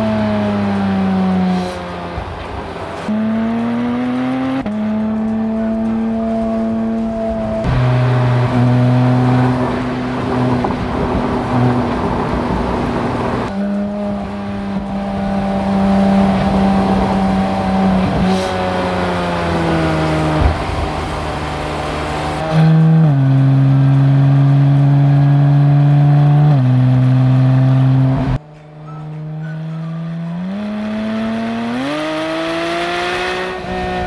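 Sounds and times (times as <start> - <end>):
car engine at part throttle: 0.0 - 34.0.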